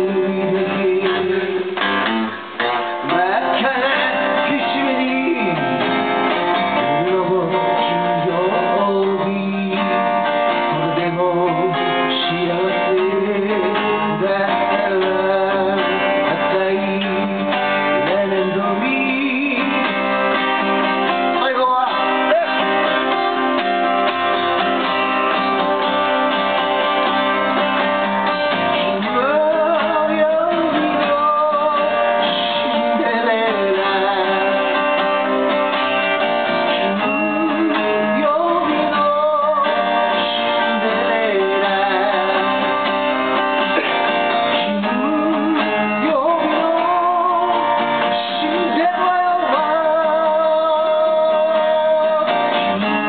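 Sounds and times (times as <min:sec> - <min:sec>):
acoustic guitar strumming: 0:00.0 - 0:53.0
person singing: 0:00.0 - 0:53.0.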